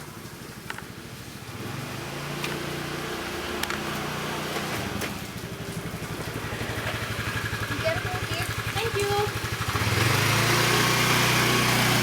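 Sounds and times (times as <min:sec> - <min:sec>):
engine hum: 0:00.0 - 0:12.0
motorcycle engines idling: 0:00.0 - 0:12.0.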